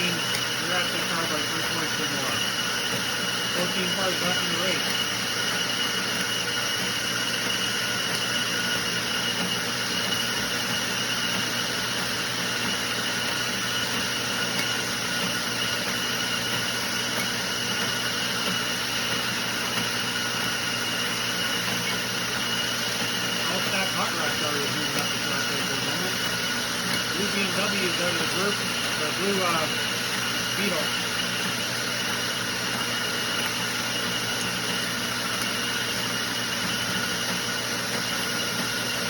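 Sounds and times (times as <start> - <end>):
treadmill motor whine: 0.0 - 39.0.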